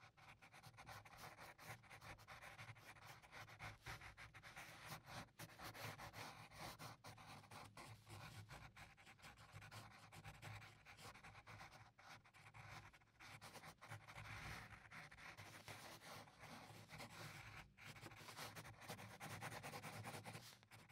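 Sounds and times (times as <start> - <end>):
pencil scratching on paper: 0.0 - 20.9.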